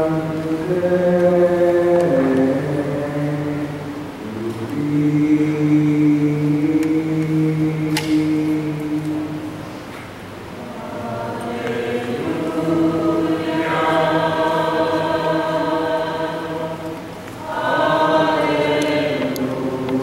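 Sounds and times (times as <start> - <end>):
choir singing chant: 0.0 - 9.5, 10.6 - 20.0.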